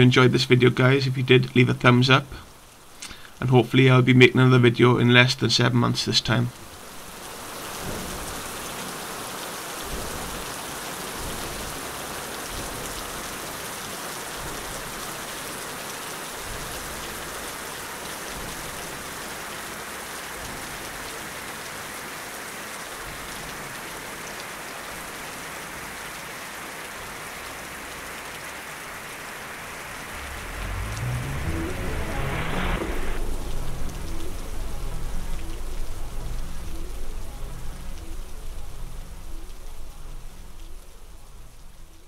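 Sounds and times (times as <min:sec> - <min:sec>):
steady hiss like rain: 0:00.0 - 0:42.0.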